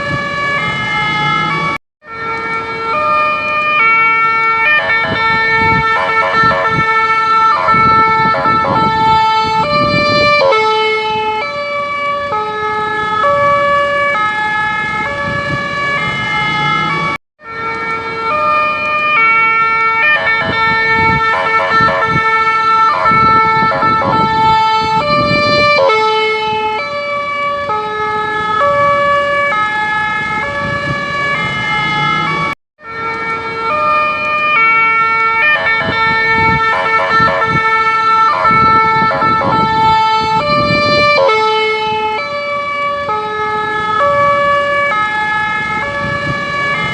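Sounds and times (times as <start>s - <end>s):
ambulance siren warbling: 0.0s - 46.9s.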